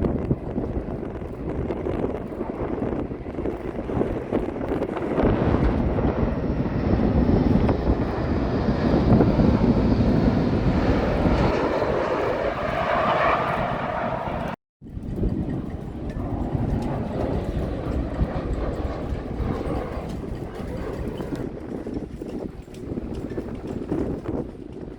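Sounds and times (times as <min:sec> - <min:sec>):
airplane engine rumble: 0:00.0 - 0:24.9.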